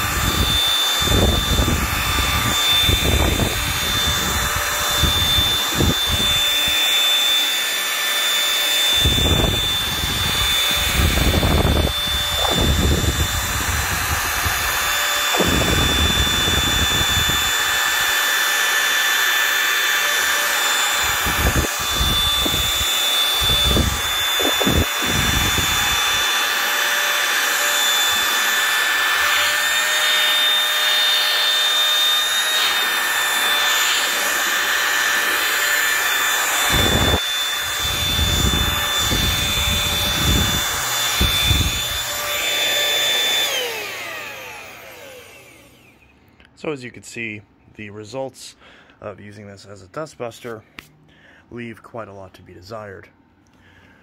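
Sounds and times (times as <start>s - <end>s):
vacuum motor whining: 0.0s - 46.3s.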